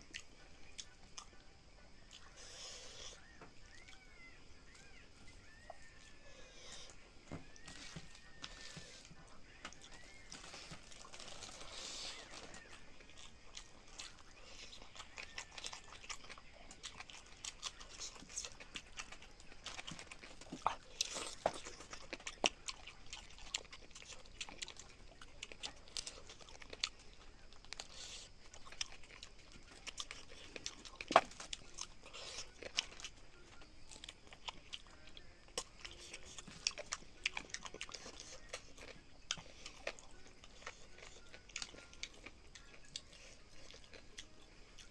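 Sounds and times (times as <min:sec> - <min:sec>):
person chewing close up: 0:00.0 - 0:44.9
small crunches: 0:02.1 - 0:44.9.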